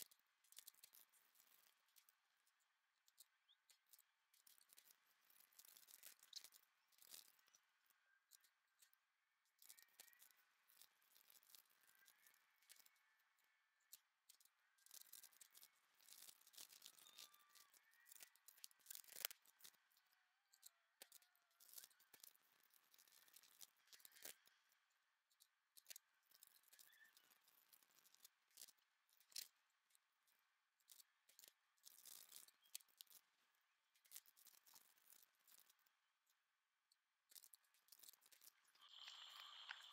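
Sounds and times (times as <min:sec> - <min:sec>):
small resin beads rattling and clicking: 0:00.0 - 0:39.9.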